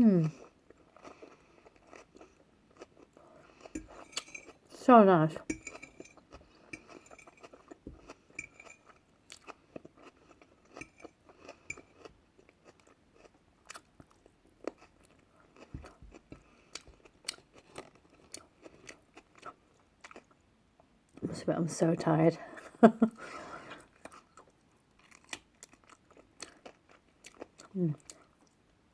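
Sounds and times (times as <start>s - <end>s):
person chewing crunchy food: 0.4s - 4.7s, 5.5s - 20.4s, 23.7s - 28.6s.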